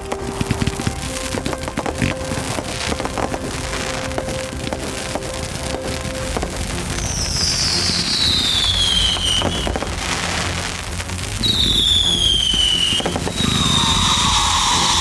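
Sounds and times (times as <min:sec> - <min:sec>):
fireworks pops: 0:00.0 - 0:15.0
fireworks whistles falling: 0:00.0 - 0:15.0
low rumble: 0:00.0 - 0:15.0.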